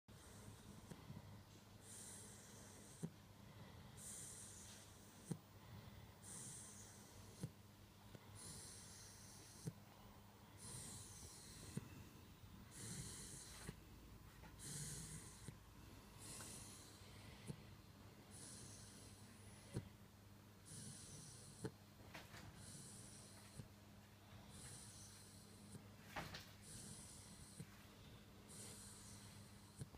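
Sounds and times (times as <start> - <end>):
puppy snoring softly: 0.1 - 29.9.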